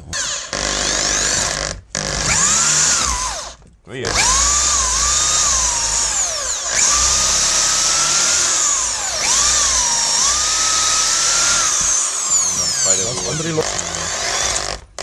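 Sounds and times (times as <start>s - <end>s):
electric drill motor whine: 0.1s - 14.8s.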